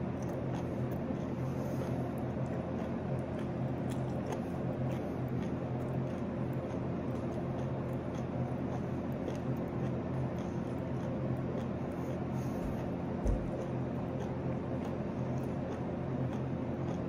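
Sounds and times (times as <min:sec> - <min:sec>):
person chewing wetly: 0:00.0 - 0:17.0
steady low hum: 0:00.0 - 0:17.0.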